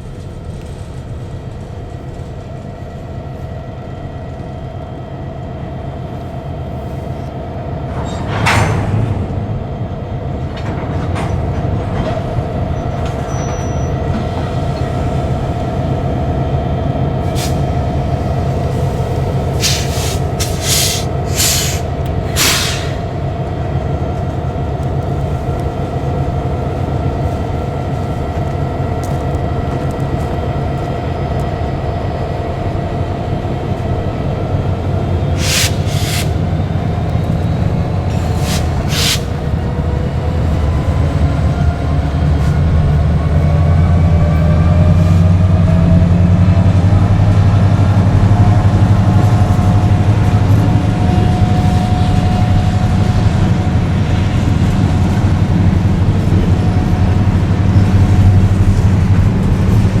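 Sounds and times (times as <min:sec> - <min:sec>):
diesel locomotive engine: 0:00.0 - 1:00.0.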